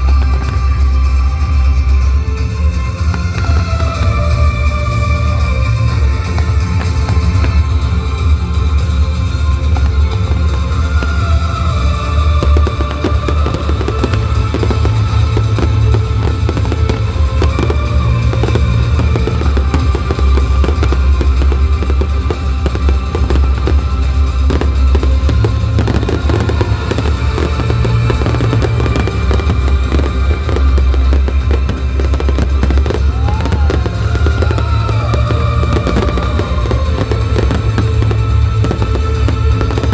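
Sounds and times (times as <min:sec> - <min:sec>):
fireworks booming and crackling: 0:00.0 - 0:39.9
heavy low rumble: 0:00.0 - 0:39.9
loud music: 0:00.0 - 0:39.9.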